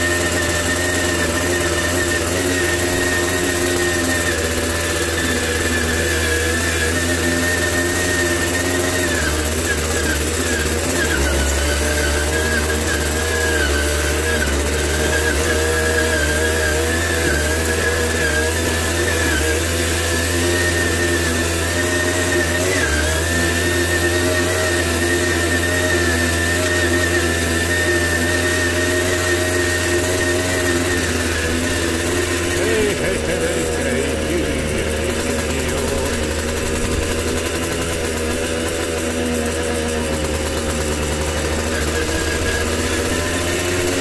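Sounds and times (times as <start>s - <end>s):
two-stroke motorcycle engine running: 0.0s - 44.0s.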